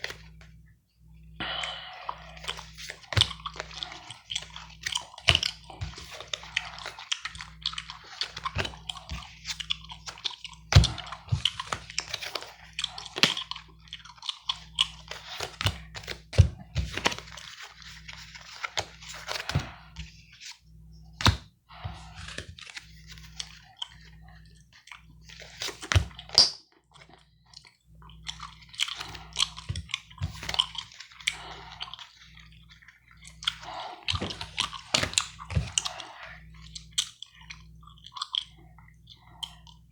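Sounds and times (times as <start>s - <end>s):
gum chewing: 1.4s - 16.3s, 21.9s - 39.9s.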